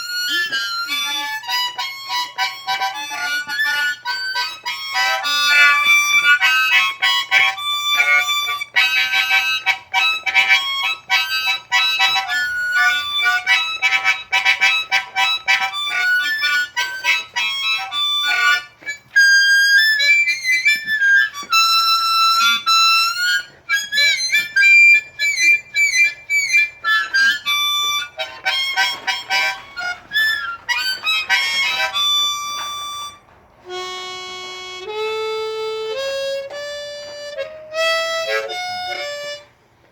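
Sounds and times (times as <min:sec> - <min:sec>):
harmonica playing blues: 0:00.0 - 0:39.9.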